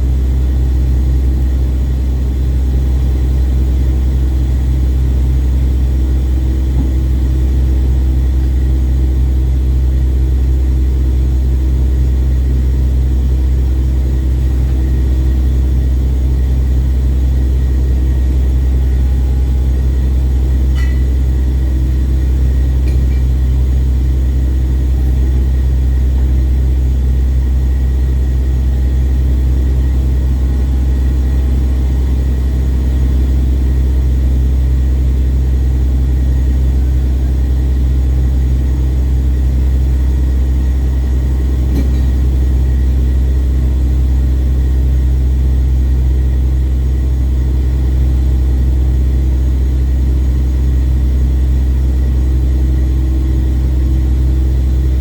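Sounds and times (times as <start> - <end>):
ship engine droning: 0.0 - 55.0.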